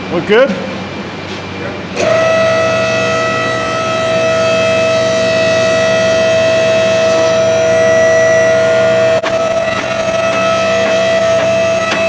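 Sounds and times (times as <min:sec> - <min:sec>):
hydraulic pump motor whining: 0:01.9 - 0:12.0.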